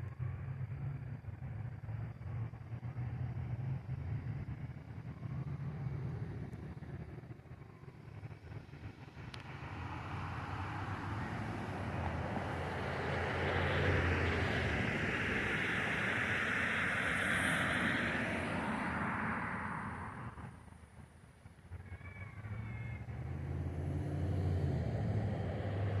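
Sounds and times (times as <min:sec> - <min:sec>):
vehicle passing by rushing: 0:01.4 - 0:21.1, 0:21.7 - 0:26.0.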